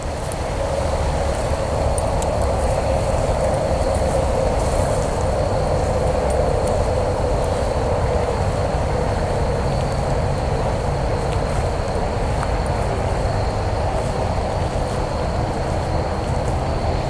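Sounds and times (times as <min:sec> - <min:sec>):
faint high whine: 0:00.0 - 0:17.0
wind rushing on camera microphone: 0:00.0 - 0:17.0.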